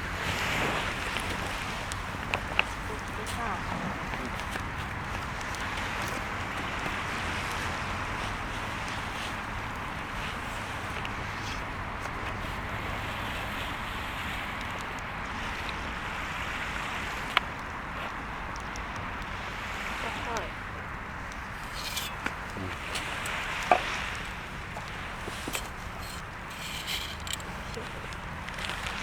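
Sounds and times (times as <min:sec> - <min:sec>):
sea surf: 0:00.0 - 0:29.0.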